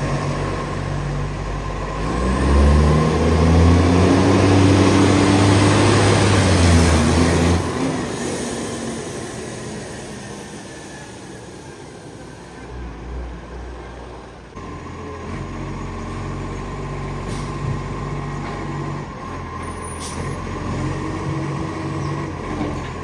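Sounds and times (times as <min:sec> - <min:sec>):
diesel engine with exhaust leak: 0:00.0 - 0:23.0.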